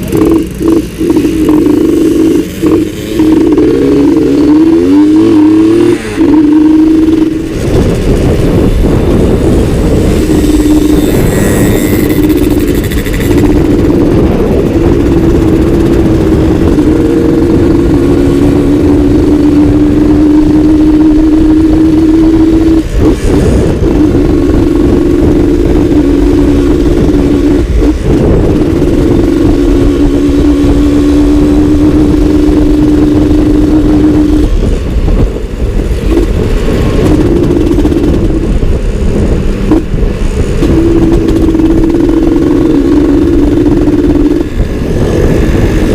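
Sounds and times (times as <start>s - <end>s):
two-stroke motorcycle engine running: 0.0s - 45.9s.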